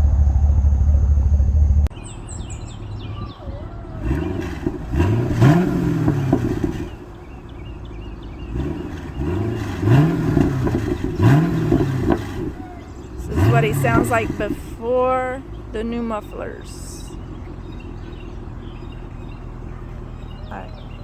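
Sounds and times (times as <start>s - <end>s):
car engine revving: 0.0s - 21.0s
loud engine drone: 0.0s - 21.0s.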